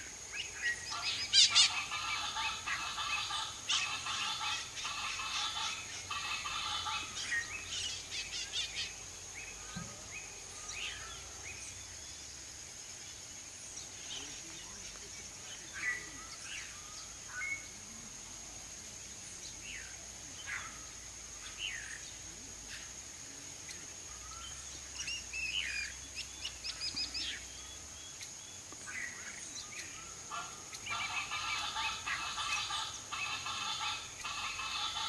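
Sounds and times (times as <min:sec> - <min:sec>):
birds chirping: 0:00.0 - 0:18.1, 0:19.0 - 0:35.0.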